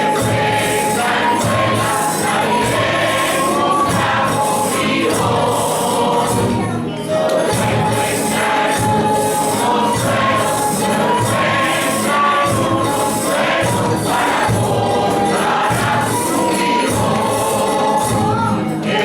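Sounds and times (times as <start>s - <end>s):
group singing a carol: 0.0s - 19.0s
instrumental accompaniment: 0.0s - 19.0s
percussion beat: 0.0s - 19.0s.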